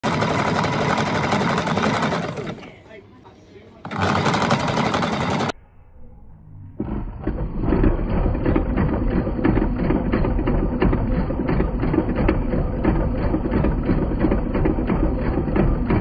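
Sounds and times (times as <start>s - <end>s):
sewing machine stitching: 0.0s - 2.8s, 3.8s - 5.6s, 6.8s - 16.0s.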